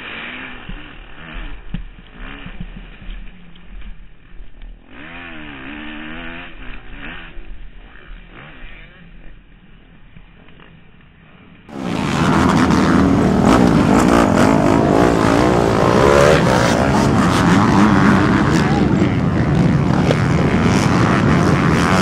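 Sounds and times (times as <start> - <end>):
dirt bike engine revving: 0.0 - 3.4, 4.2 - 9.4, 11.7 - 22.0.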